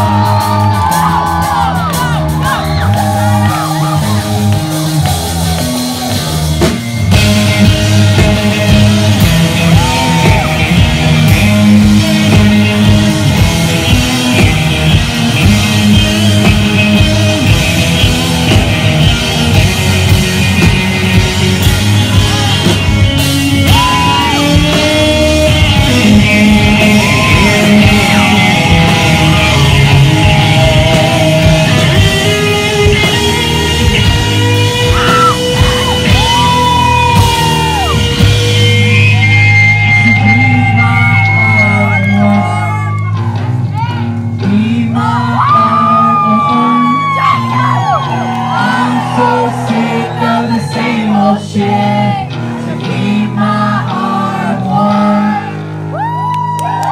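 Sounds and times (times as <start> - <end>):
sung and yelled vocals: 0.0 - 6.5, 7.6 - 56.9
drum kit: 0.0 - 45.6
distorted electric guitars: 0.0 - 56.9.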